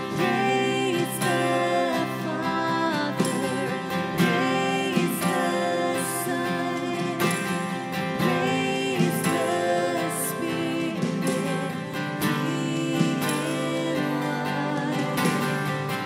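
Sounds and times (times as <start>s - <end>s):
strummed acoustic guitar: 0.0s - 16.0s
woman singing: 0.0s - 16.0s.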